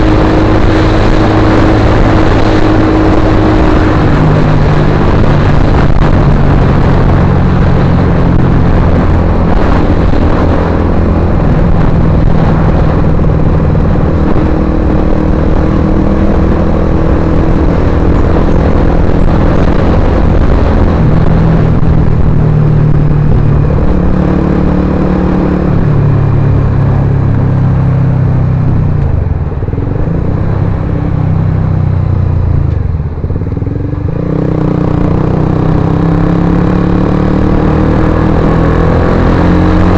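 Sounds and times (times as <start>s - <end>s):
motorcycle engine exhaust note: 0.0s - 39.9s.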